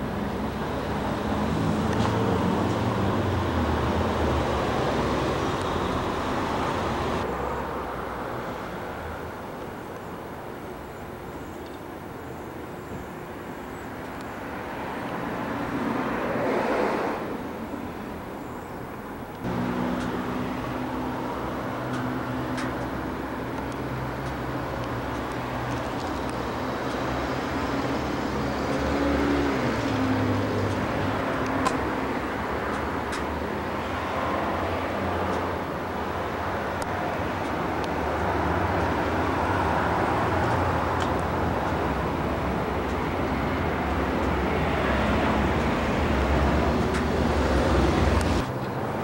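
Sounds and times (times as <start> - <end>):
vehicle passing by: 0.0 - 8.7, 14.7 - 17.6, 19.4 - 49.0
outdoor background rumble: 0.0 - 49.0
traffic noise: 0.0 - 49.0.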